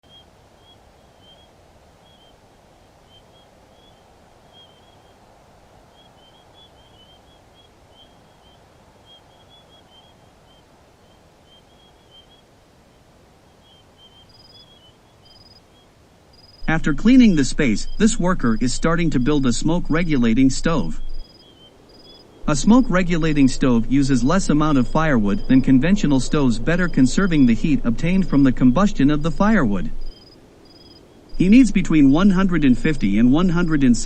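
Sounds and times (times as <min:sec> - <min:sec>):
bird chirping: 0:00.0 - 0:02.4, 0:03.0 - 0:05.2, 0:05.8 - 0:12.6, 0:13.5 - 0:34.0
steady background hiss: 0:00.0 - 0:34.0.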